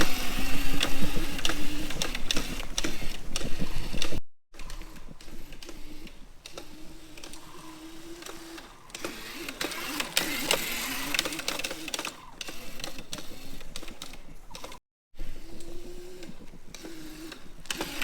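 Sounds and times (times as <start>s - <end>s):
electric dirt bike motor whirring: 0.0s - 18.0s.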